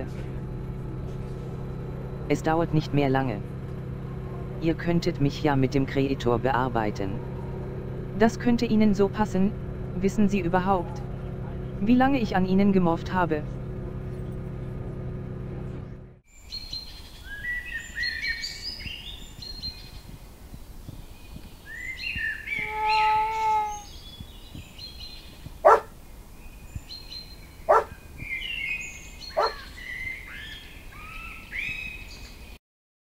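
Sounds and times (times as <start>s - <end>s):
vehicle interior hum: 0.0s - 16.2s, 18.8s - 31.3s
songbirds chirping: 0.0s - 32.6s.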